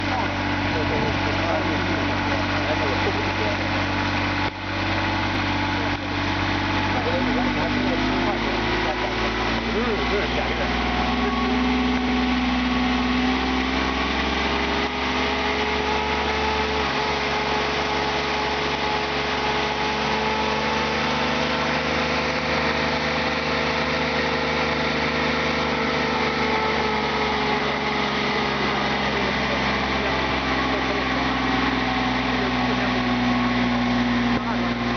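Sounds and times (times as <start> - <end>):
loader engine running: 0.0 - 34.9.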